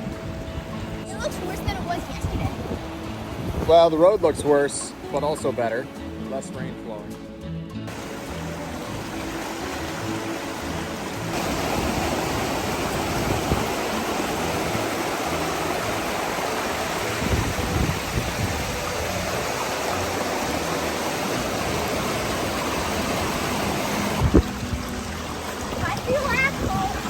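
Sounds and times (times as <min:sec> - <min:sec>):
rushing running water: 0:00.0 - 0:27.0.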